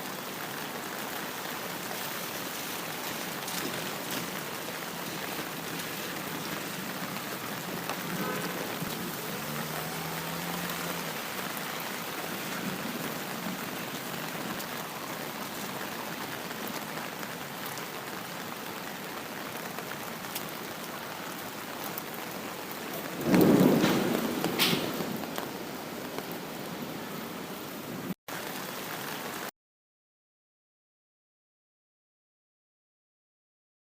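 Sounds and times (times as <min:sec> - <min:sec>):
rain pattering: 0:00.0 - 0:29.5.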